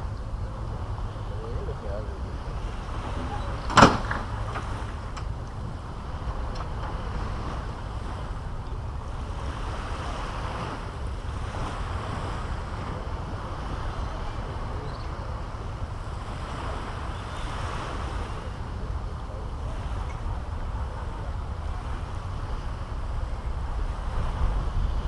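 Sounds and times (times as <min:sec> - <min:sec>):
surf washing on a beach: 0:00.0 - 0:25.0
wind rumble on microphone: 0:00.0 - 0:25.0.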